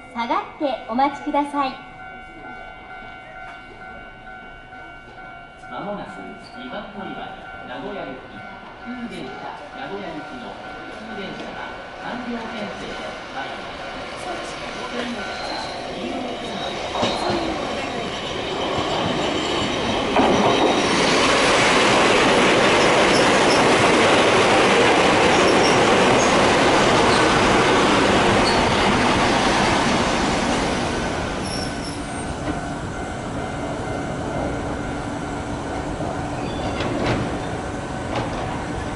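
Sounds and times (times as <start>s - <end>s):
electric train passing: 0.0s - 38.9s.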